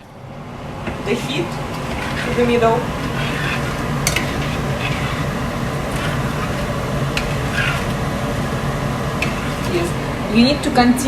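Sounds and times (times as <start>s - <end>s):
steady mechanical hum: 0.0s - 11.0s
spoon scraping a saucepan: 1.1s - 10.4s.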